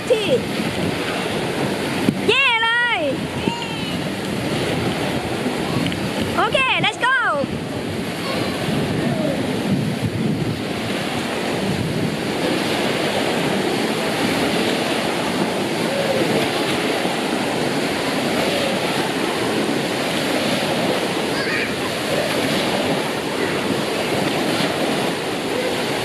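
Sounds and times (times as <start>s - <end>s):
waves breaking and churning: 0.0s - 26.0s.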